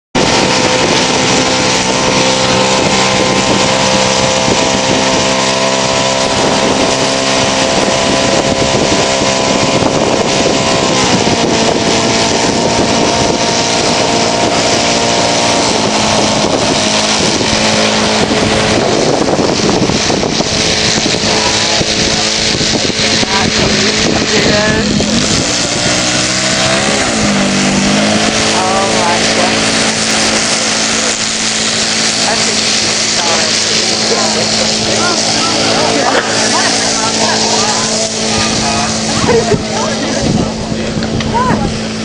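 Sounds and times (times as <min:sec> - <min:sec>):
model aircraft engine running: 0:00.1 - 0:42.0.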